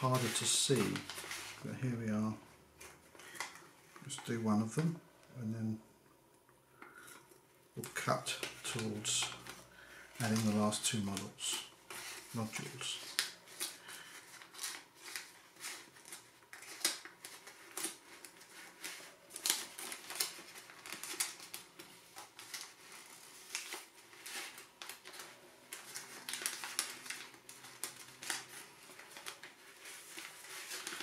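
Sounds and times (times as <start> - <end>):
paper rustling and crinkling: 0.0 - 4.9, 7.8 - 31.0.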